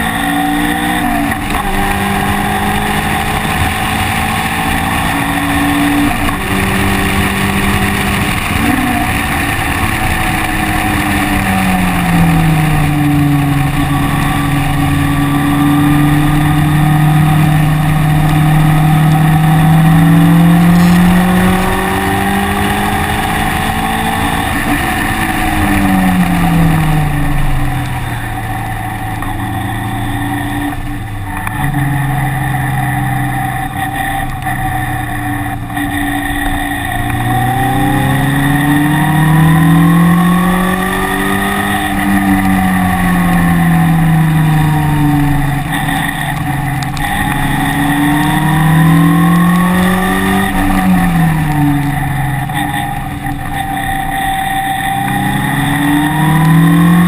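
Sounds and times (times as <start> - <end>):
racing car engine: 0.0 - 57.0.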